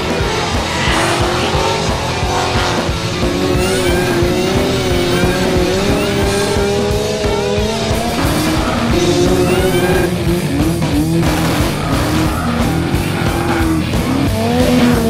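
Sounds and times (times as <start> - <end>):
car engine running hard: 0.0 - 15.0
music: 0.0 - 15.0
tyres squealing: 0.0 - 15.0.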